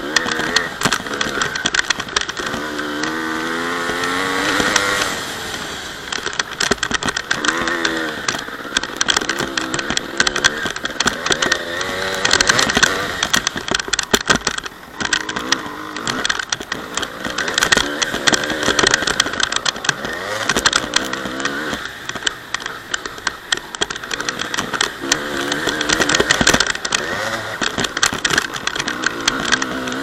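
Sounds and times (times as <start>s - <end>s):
dirt bike engine revving: 0.0s - 30.0s
sharp knocks and rattles: 0.0s - 30.0s.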